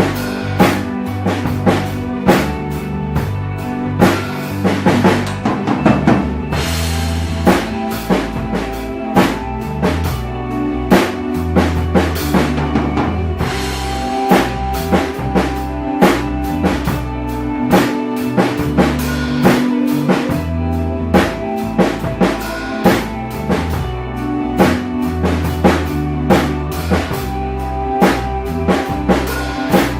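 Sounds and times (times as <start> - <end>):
drum kit playing: 0.0 - 29.9
rock backing track: 0.0 - 29.9.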